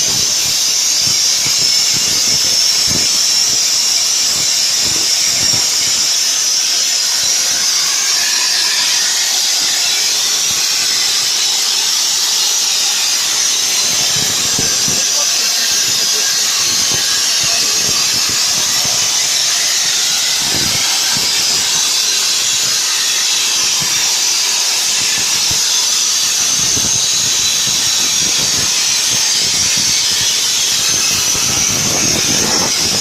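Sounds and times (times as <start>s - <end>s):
plasma cutter hissing: 0.0s - 33.0s.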